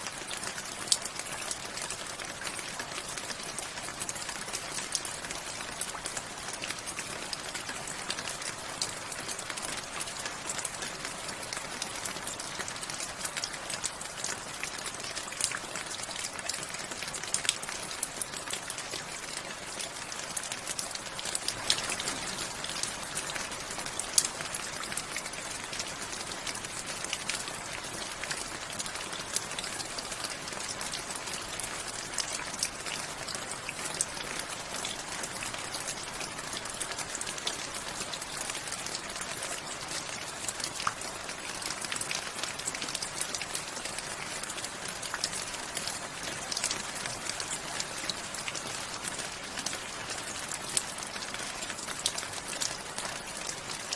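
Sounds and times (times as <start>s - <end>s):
raindrops ticking on hard surface: 0.0s - 53.9s
steady rain patter: 0.0s - 53.9s.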